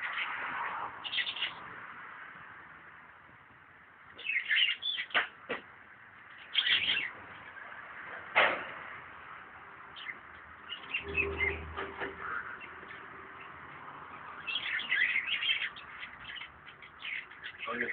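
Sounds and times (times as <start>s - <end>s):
birds chirping: 0.0s - 2.4s, 3.1s - 8.3s, 8.9s - 17.9s.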